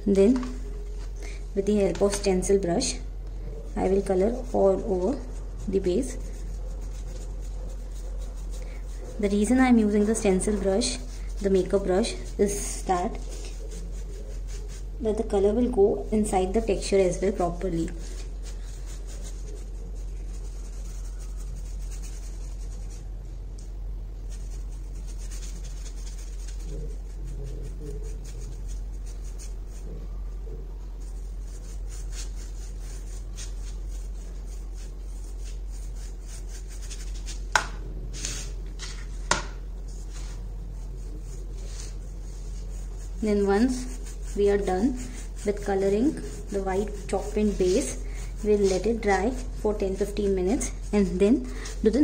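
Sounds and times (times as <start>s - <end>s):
steady low hum: 0.0s - 52.0s
brush scrubbing paint: 2.8s - 23.1s, 24.2s - 52.0s.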